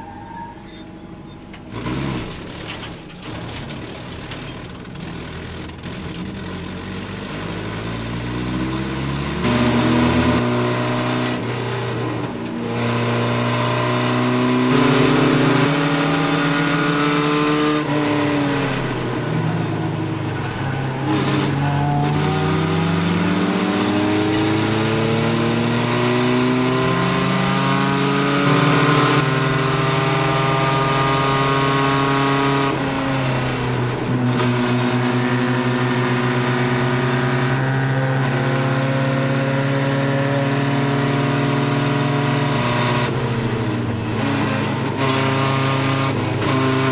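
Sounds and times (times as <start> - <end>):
truck engine revving: 0.6 - 46.9.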